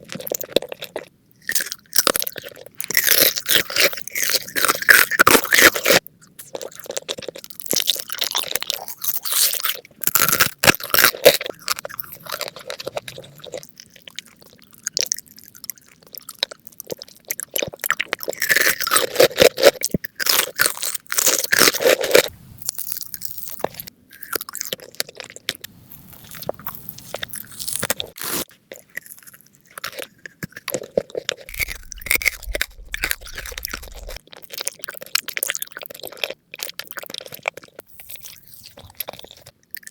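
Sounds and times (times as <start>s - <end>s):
crunchy chewing of crisp food: 0.0s - 39.9s.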